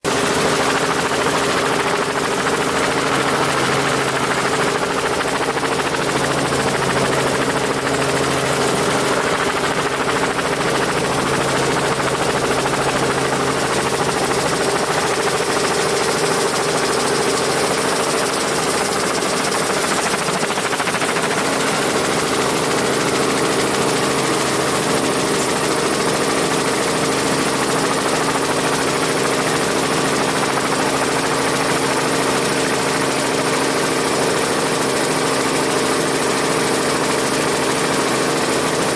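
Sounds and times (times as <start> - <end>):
helicopter rotor running: 0.0 - 38.9.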